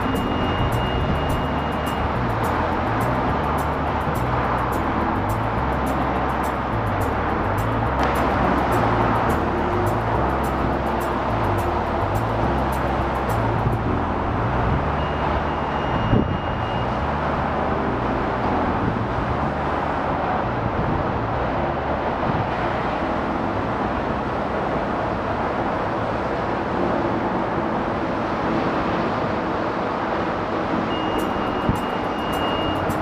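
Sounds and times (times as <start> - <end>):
excavator diesel engines droning: 0.0 - 33.0.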